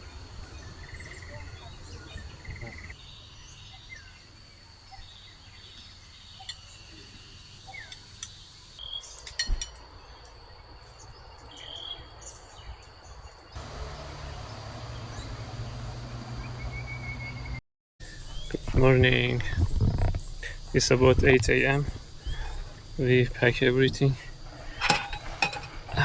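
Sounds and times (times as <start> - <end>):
high insect drone: 0.0 - 16.6, 18.0 - 26.0
birds chirping: 0.0 - 26.0.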